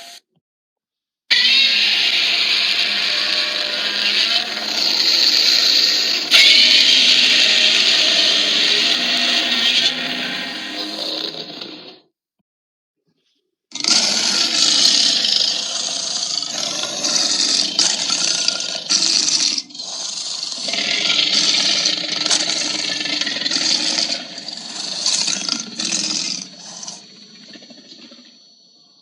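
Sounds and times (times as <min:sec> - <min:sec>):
raspy monster roar: 0:01.3 - 0:12.0, 0:13.7 - 0:27.6.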